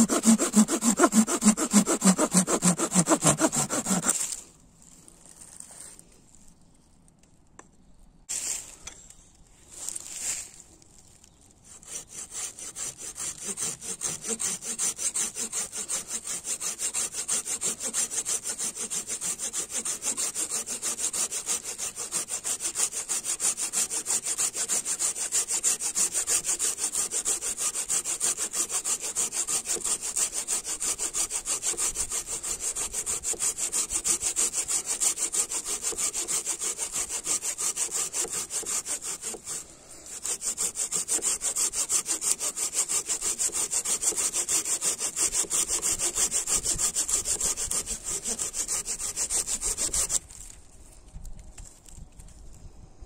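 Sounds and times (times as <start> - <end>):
hand saw cutting branch: 0.0 - 4.5, 11.7 - 50.6.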